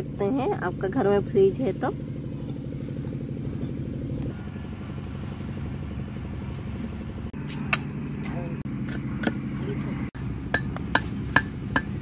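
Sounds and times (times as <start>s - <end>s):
engine running with fast pulse: 0.0s - 12.0s.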